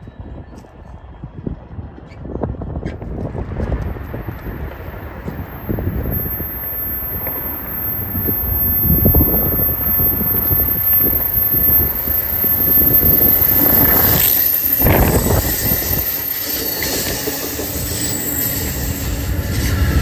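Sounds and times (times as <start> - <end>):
train wheels rumbling over track: 2.5 - 20.0
faint high wheel squeal: 3.6 - 20.0.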